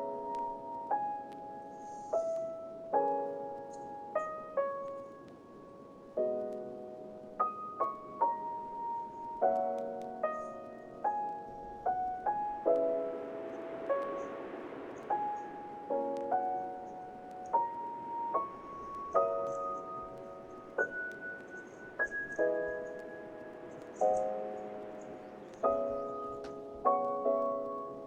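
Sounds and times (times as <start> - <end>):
slow gentle piano music: 0.0 - 28.0.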